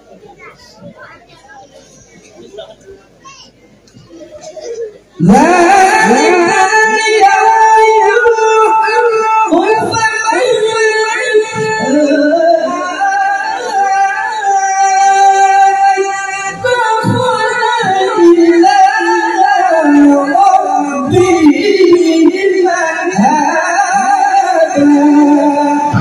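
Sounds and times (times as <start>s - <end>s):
man reciting through a microphone: 4.4s - 26.0s.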